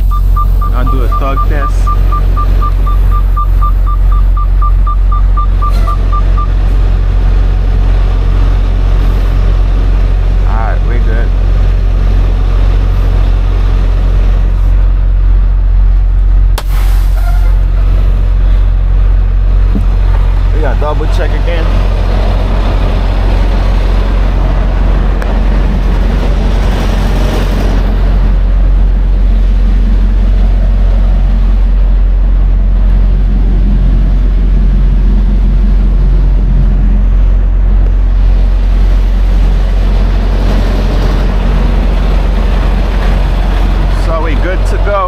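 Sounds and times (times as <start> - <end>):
diesel truck engine idling: 0.0 - 45.0.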